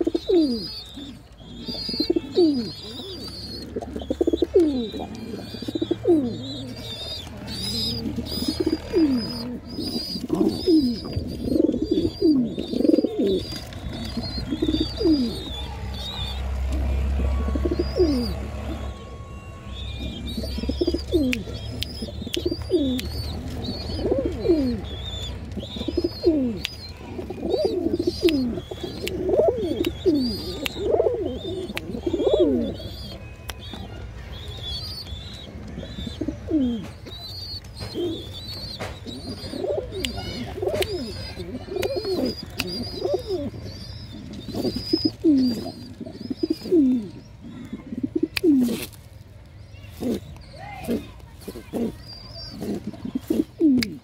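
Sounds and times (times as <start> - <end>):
pigeon cooing: 0.0 - 18.9, 19.9 - 34.0, 34.8 - 48.9, 50.0 - 54.0
small birds chirping: 0.0 - 54.0.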